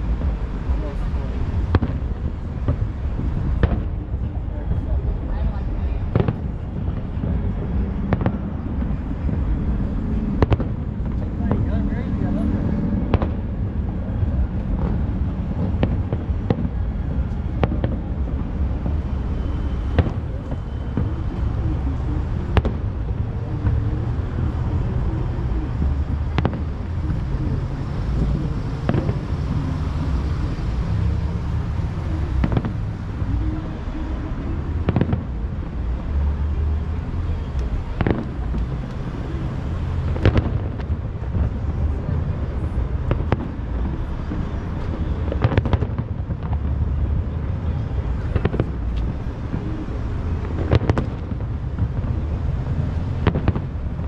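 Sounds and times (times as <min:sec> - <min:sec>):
distant fireworks bangs: 0:00.0 - 0:54.0
low rumble: 0:00.0 - 0:54.0.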